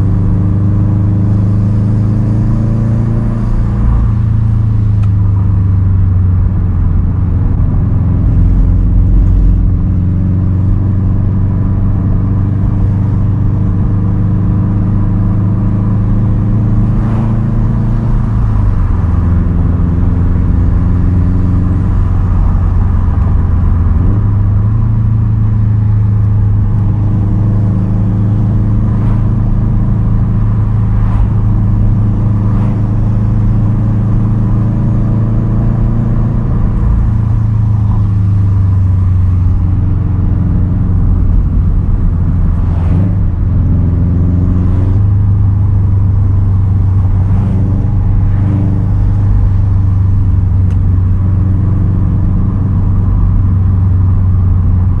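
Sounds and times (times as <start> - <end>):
car engine droning while cruising: 0.0 - 55.0.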